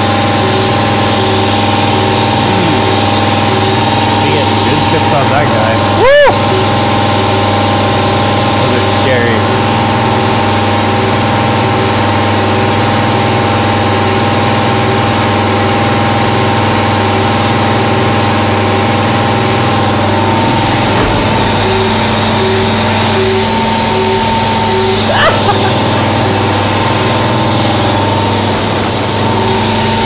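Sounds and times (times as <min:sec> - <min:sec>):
milling machine spindle whine: 0:00.0 - 0:30.0.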